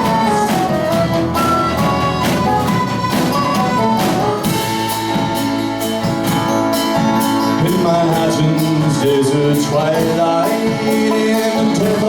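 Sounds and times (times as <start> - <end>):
folk rock instrumental music: 0.0 - 12.0.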